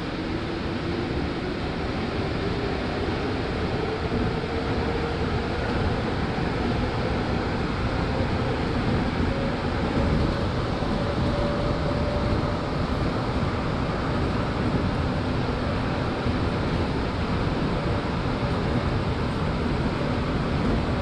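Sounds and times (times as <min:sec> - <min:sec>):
subway car rumble: 0:00.0 - 0:21.0.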